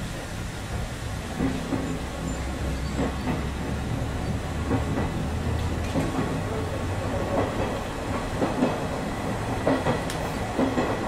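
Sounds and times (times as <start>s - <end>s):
electric train rolling rumble: 0.0s - 11.0s.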